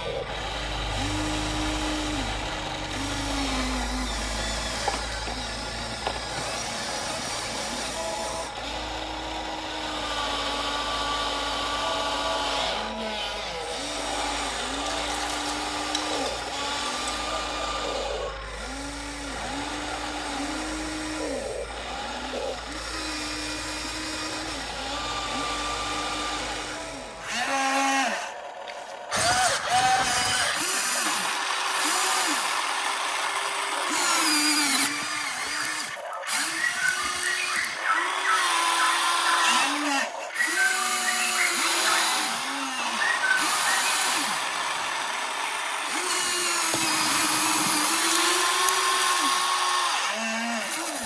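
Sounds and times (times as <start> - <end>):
small electric motor whining: 0.0 - 51.0.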